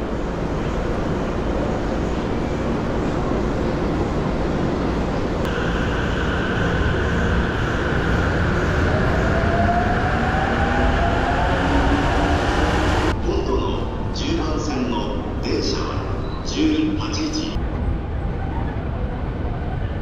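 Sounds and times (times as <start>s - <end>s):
train cars rumbling: 0.0s - 19.6s.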